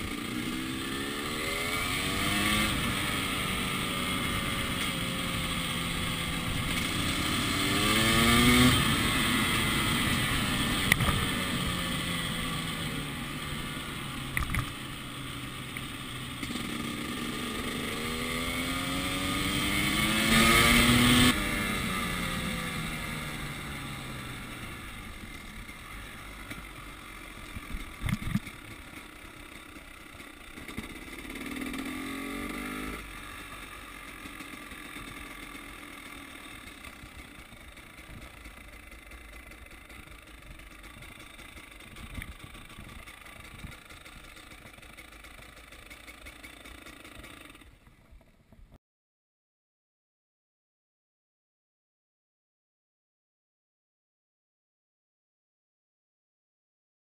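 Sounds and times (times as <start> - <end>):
dirt bike engine revving: 0.0 - 47.7.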